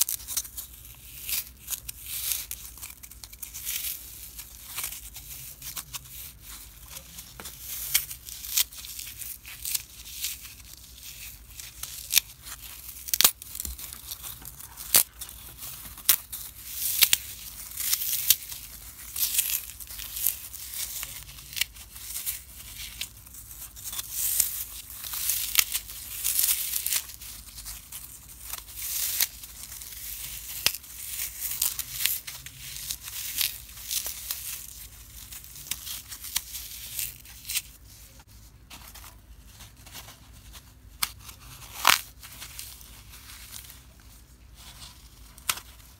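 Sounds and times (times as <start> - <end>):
floral foam crunching by hand: 0.0 - 38.2, 41.0 - 43.7.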